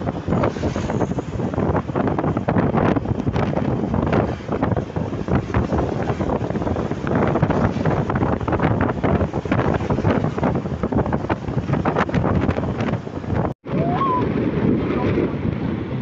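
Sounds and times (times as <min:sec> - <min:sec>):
vehicle and road noise rumble: 0:00.0 - 0:16.0
wind buffeting microphone: 0:00.0 - 0:16.0.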